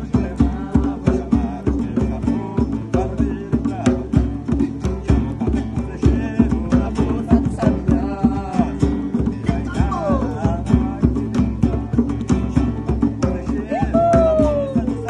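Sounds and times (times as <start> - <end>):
faint singing: 0.0 - 15.0
strummed guitar: 0.0 - 15.0.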